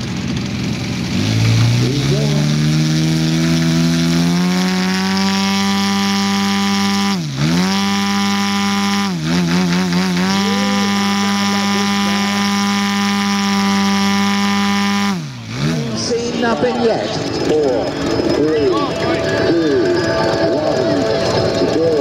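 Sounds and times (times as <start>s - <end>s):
model plane engine running: 0.0s - 22.0s.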